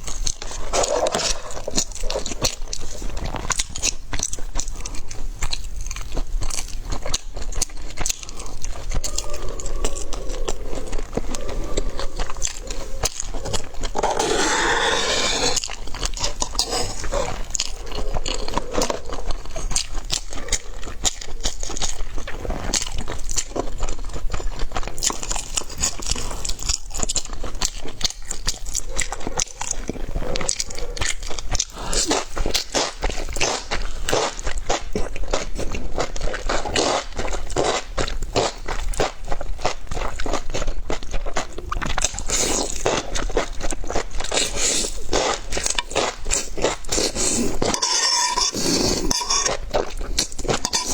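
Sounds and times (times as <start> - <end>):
chewing crunchy food: 0.0 - 50.9.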